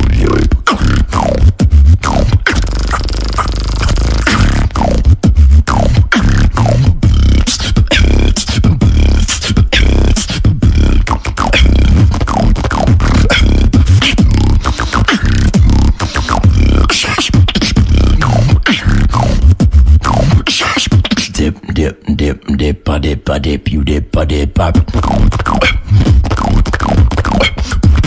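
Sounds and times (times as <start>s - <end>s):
person beatboxing: 0.0s - 28.0s.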